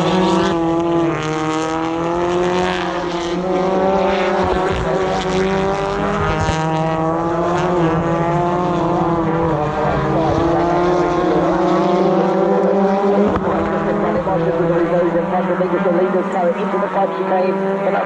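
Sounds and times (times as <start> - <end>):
racing cars passing: 0.0 - 18.0.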